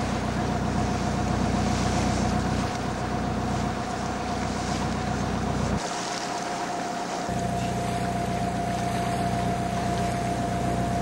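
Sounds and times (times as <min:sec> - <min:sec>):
boat engine humming: 0:00.0 - 0:11.0
engine whine: 0:00.0 - 0:11.0.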